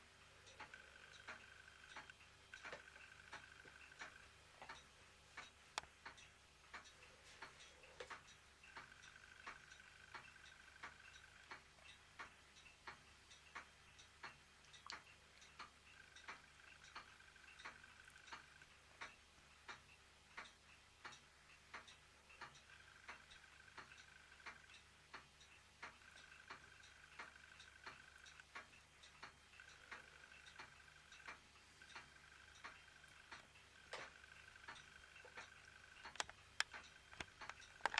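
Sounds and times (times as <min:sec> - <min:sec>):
mechanical ticking: 0:00.0 - 0:37.9.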